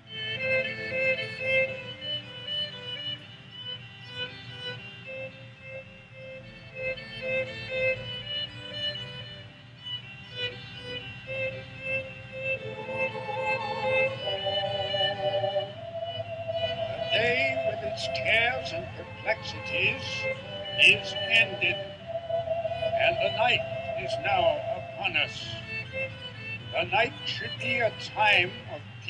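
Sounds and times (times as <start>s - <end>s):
solo violin playing: 0.2s - 29.0s.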